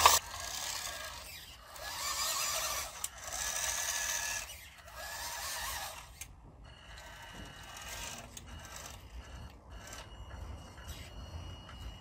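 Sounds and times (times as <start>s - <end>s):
toy truck motor whirring: 0.0s - 11.8s.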